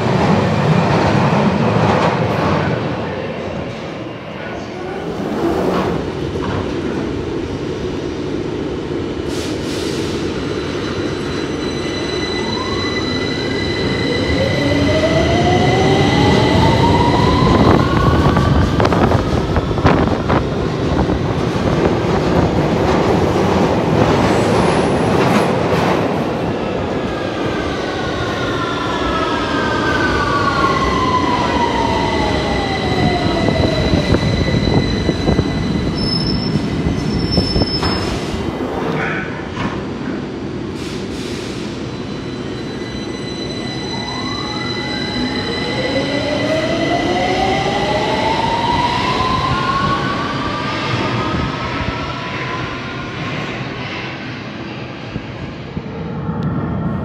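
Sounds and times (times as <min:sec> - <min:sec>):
train rumbling along platform: 0:00.0 - 0:57.0.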